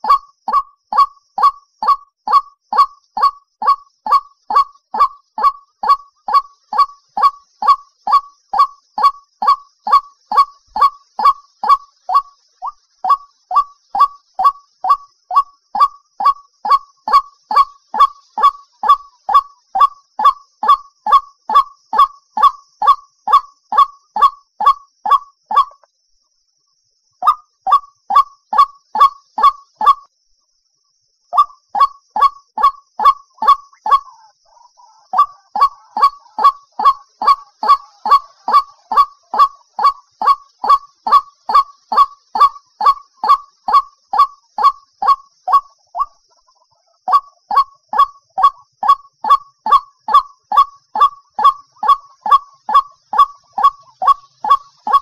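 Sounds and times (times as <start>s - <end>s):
waterhen calling: 0.0s - 25.8s, 27.2s - 30.0s, 31.4s - 55.0s.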